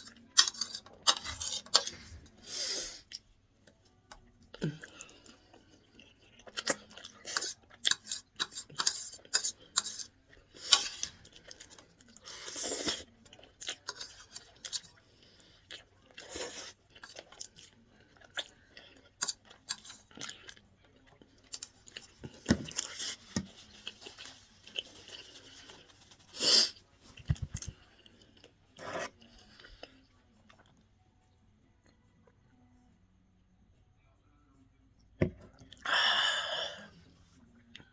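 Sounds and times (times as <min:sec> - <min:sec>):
person chewing food: 0:00.0 - 0:30.8.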